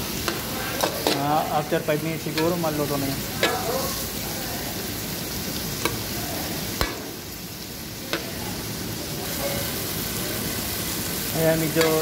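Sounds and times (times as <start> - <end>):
vegetables sizzling in pot: 0.0 - 12.0.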